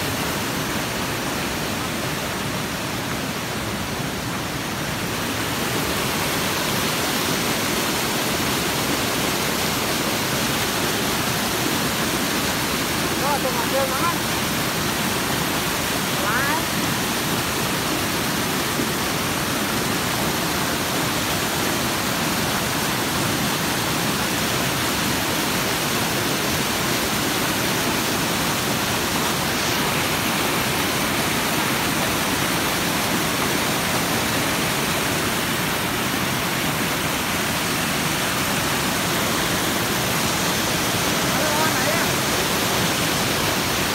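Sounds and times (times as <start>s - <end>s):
stream rushing over boulders: 0.0s - 43.9s.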